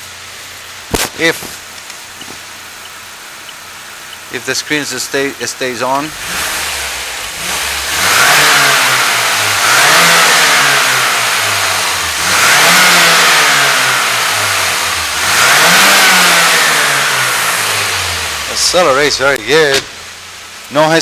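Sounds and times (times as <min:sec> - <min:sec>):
car engine snap-revving: 0:00.1 - 0:04.9, 0:05.9 - 0:20.8.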